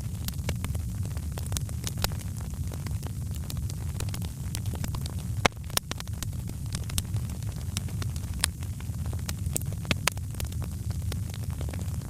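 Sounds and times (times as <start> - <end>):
fire crackling and popping: 0.0 - 12.0
low fire rumble: 0.0 - 12.0.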